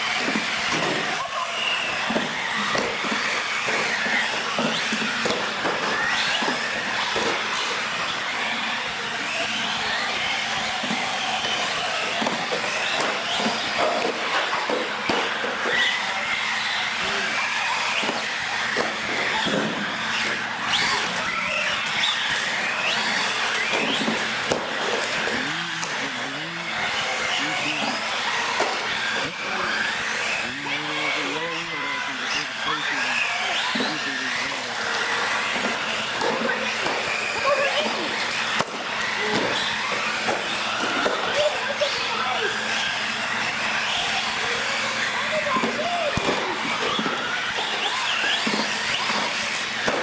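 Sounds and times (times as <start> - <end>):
rc car motors whining: 0.0 - 50.0.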